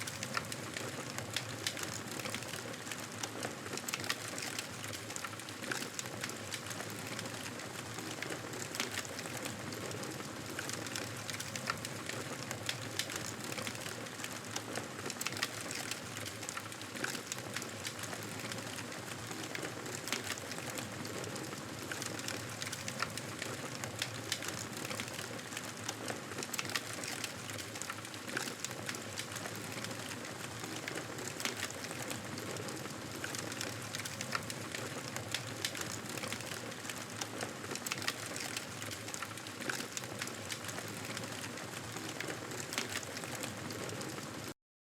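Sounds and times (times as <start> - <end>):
wood crackling and popping: 0.0 - 44.4.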